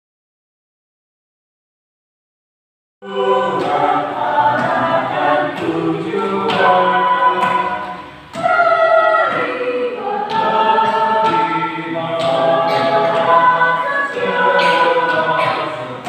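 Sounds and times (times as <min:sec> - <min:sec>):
choir singing in harmony: 0:03.0 - 0:16.0.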